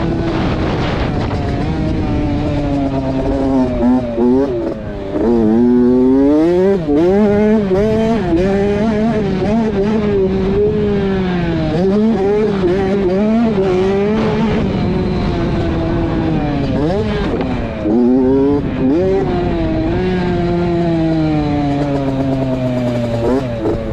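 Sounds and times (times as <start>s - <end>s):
motocross bike engine revving: 0.0s - 23.9s
wind rush: 0.0s - 23.9s.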